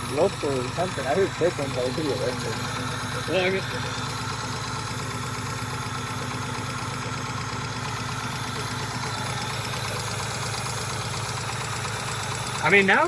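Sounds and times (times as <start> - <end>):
car engine idling with misfire: 0.0 - 13.0
fast engine ticking knock: 0.0 - 13.0.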